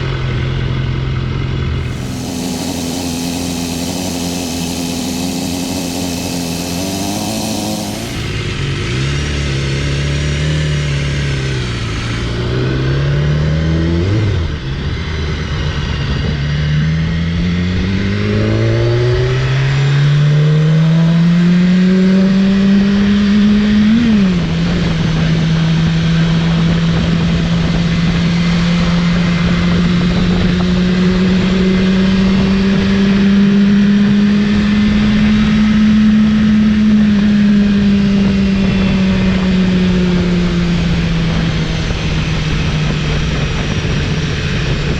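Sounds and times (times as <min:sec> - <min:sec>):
motorcycle engine accelerating: 0:00.0 - 0:44.9
wind and road noise: 0:00.0 - 0:44.9.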